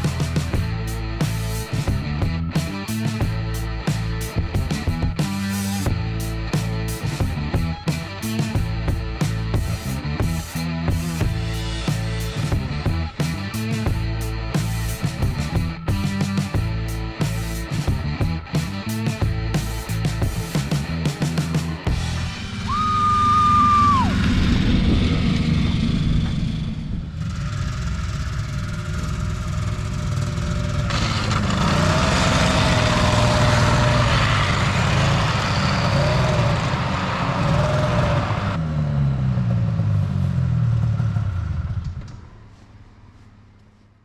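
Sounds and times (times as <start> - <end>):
snowmobile engine running: 0.0 - 38.6.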